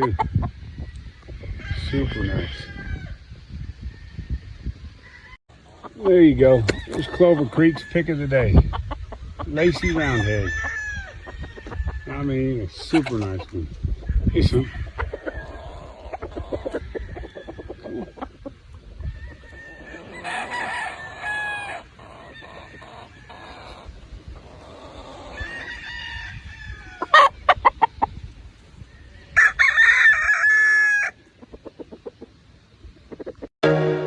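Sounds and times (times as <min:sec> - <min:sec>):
rooster clucking: 0:00.0 - 0:00.6, 0:05.0 - 0:28.2, 0:29.4 - 0:32.4, 0:33.0 - 0:33.5
roosters crowing: 0:00.0 - 0:13.4, 0:14.0 - 0:27.9, 0:28.8 - 0:31.2.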